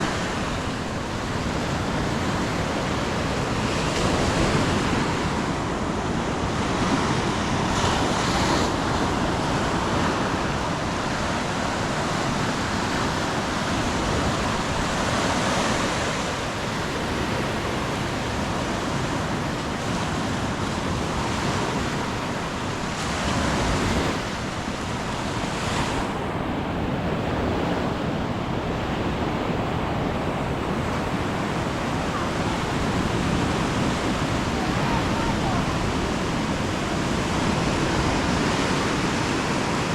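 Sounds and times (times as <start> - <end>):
waves breaking on beach: 0.0 - 39.9
wind on microphone: 0.0 - 39.9.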